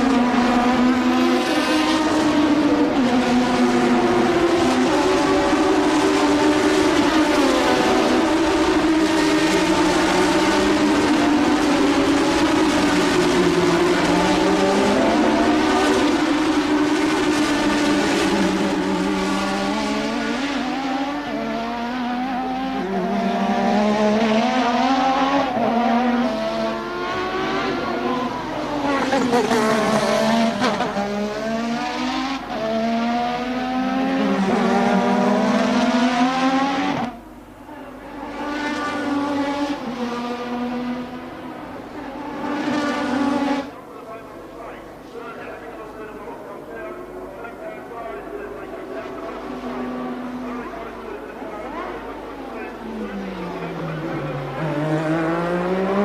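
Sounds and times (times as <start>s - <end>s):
racing car engine revving: 0.0s - 37.2s, 38.0s - 56.0s.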